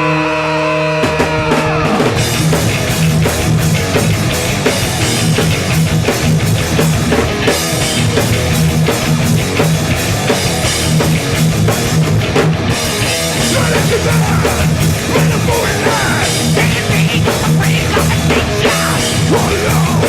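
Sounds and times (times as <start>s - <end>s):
distorted electric guitars: 0.0s - 20.0s
pounding drum kit: 0.0s - 20.0s.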